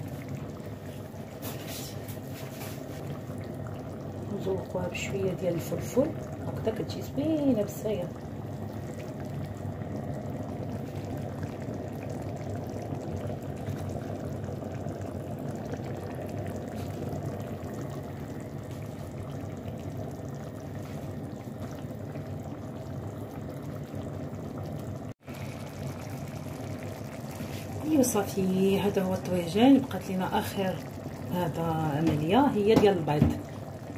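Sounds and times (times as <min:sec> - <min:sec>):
sauce bubbling: 0:00.0 - 0:33.9.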